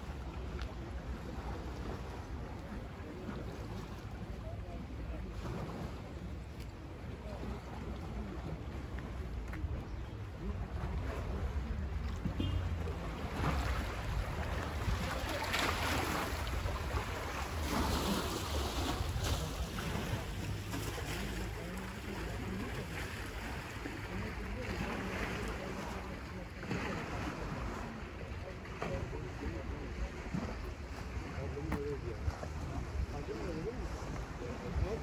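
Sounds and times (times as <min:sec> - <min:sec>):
small waves washing: 0:00.0 - 0:35.0.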